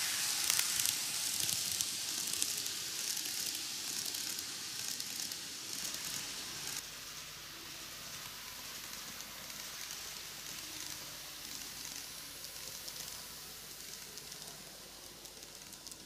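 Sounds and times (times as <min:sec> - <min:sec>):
model train running: 0:00.0 - 0:16.0.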